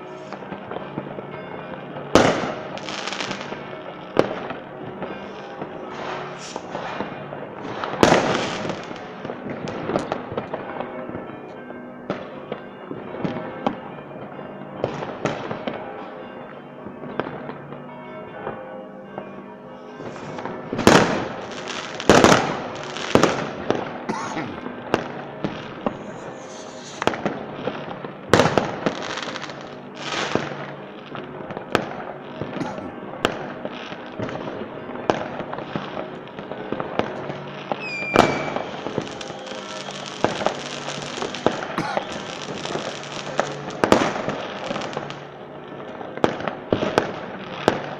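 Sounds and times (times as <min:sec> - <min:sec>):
fireworks bangs and crackle: 0:00.0 - 0:19.2, 0:19.9 - 0:47.9.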